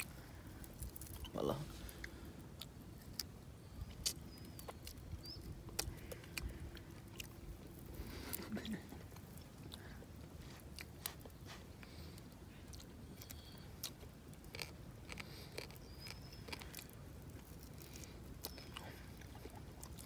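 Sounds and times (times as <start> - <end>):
low steady background: 0.0 - 20.0
small bones crunching while chewing: 0.0 - 20.0.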